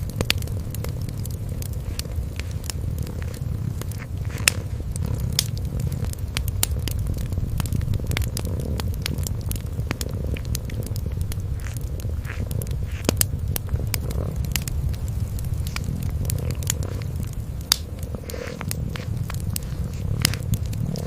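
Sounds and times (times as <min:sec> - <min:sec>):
kitten purring: 0:00.0 - 0:21.0
wood fire crackling: 0:00.0 - 0:21.0.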